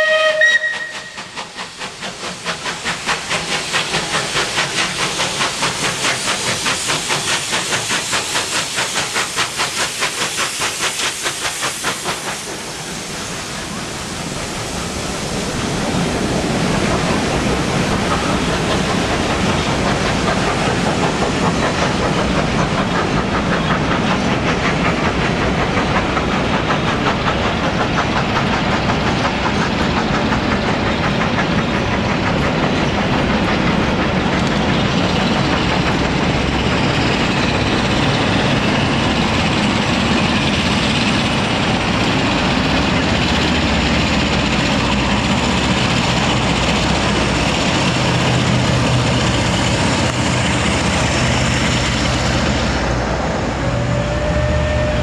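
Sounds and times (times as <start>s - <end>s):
train rumble: 0.0s - 55.0s
train wheels clicking on rails: 0.0s - 55.0s.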